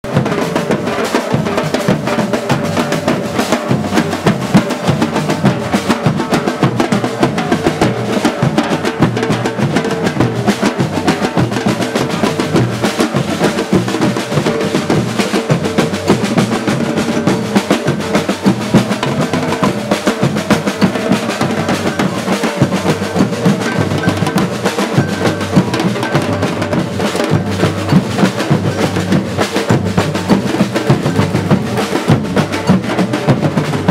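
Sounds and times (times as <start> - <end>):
drum group playing fast rhythm: 0.0 - 33.9.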